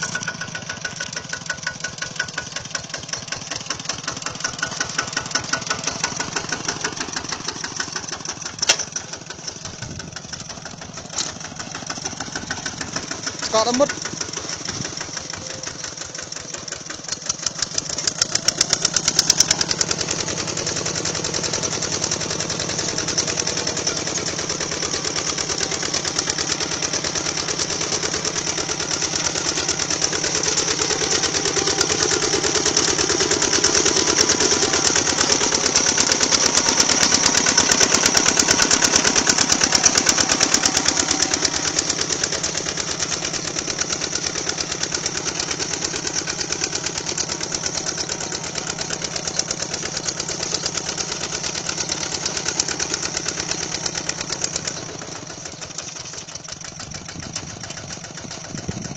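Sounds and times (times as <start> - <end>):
tiller engine chugging: 0.0 - 58.9.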